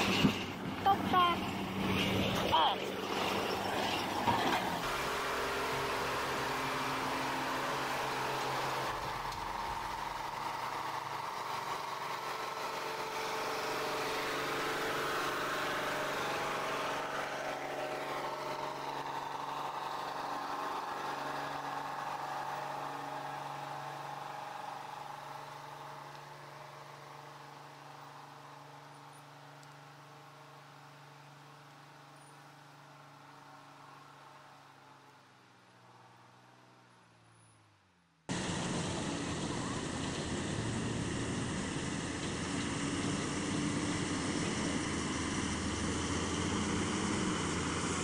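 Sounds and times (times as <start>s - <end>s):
truck diesel engine passing: 0.0s - 37.5s, 38.3s - 48.0s.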